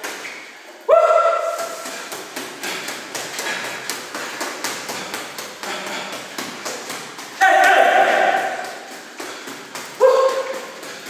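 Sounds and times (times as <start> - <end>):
gloves punching bag: 1.3 - 11.0.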